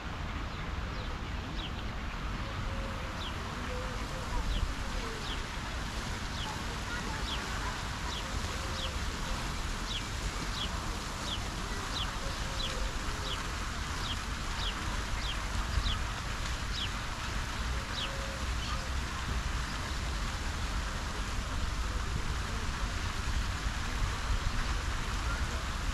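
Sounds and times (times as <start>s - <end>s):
fountain jets splashing into lake: 0.0s - 25.9s.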